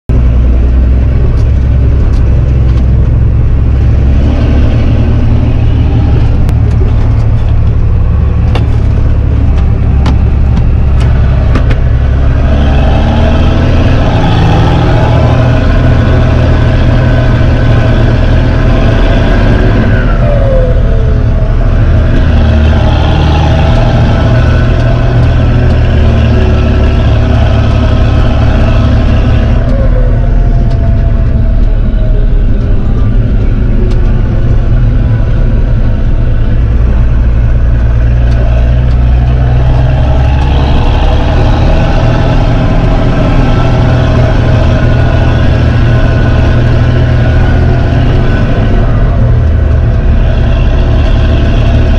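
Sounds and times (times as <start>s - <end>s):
high whine: 0.1s - 51.9s
tractor diesel engine rumbling: 0.1s - 51.9s.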